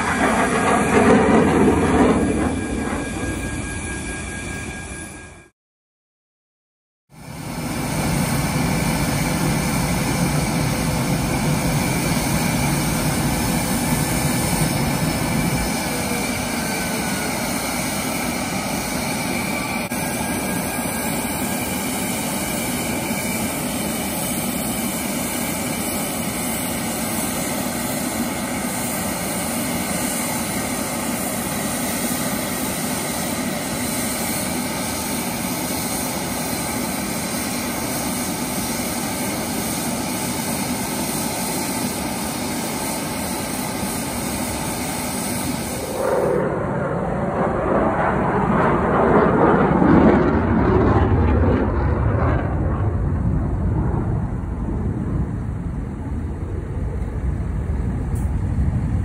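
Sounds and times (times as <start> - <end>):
jet rumbling in flight: 0.0 - 5.1, 7.1 - 59.0
jet engine idling: 0.0 - 5.2, 7.2 - 59.0.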